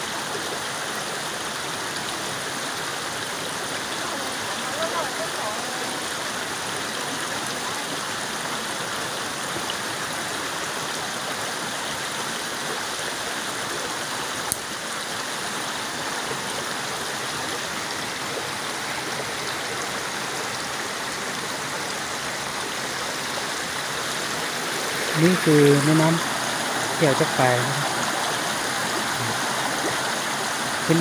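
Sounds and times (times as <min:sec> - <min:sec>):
stream flowing over rocks: 0:00.0 - 0:31.0.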